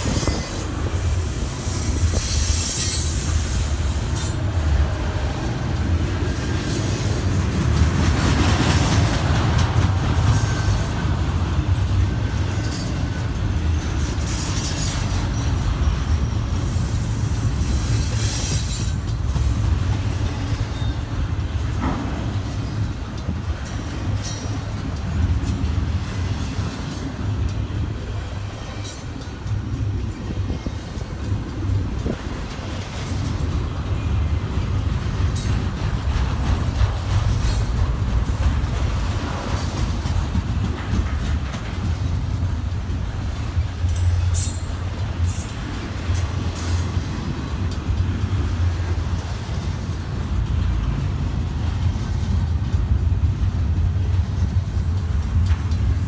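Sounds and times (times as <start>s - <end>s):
diesel locomotive rumble: 0.0s - 56.0s
train wheels on track: 0.0s - 56.0s.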